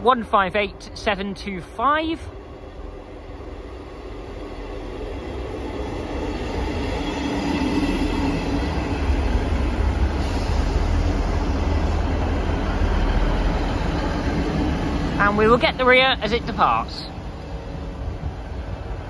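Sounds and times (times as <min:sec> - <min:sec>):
train engines and wheels rumbling: 0:00.0 - 0:19.0.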